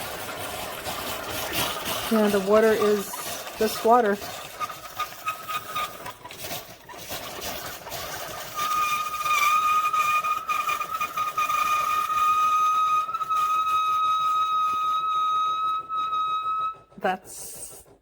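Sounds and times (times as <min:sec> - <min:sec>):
coffee maker hissing and whistling: 0:00.0 - 0:18.0.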